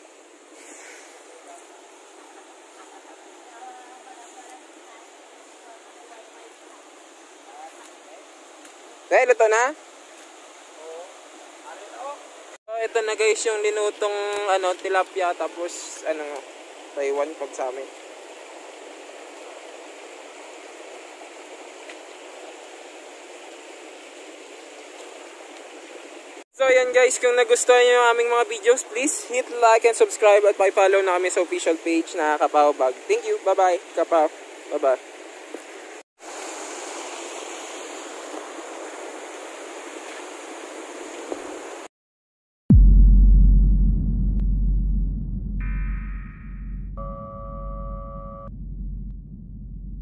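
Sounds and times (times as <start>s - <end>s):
stream water flowing: 0.0s - 41.9s.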